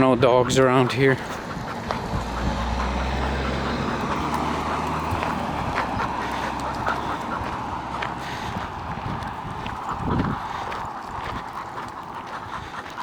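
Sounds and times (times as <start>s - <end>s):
outdoor street noise: 0.0s - 13.0s
vehicle engine humming: 0.0s - 13.0s.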